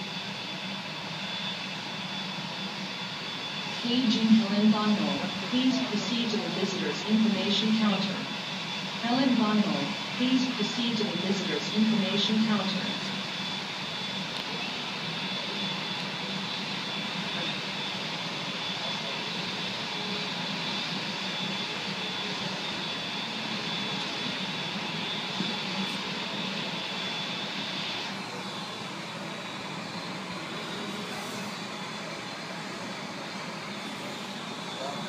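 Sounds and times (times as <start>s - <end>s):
jet airliner engine whine: 0.0s - 35.0s.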